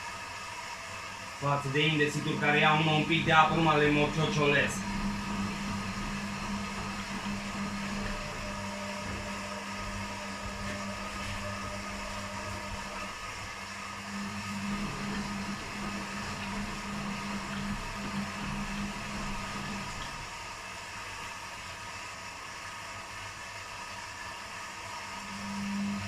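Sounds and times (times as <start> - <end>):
washing machines running: 0.0 - 26.0.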